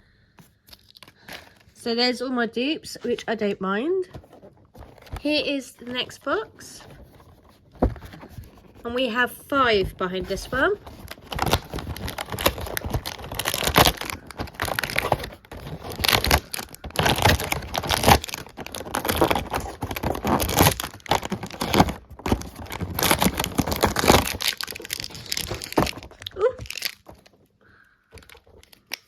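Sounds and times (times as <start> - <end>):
plastic packaging crinkling and tearing: 0.7 - 1.6, 4.2 - 27.4, 28.1 - 29.0.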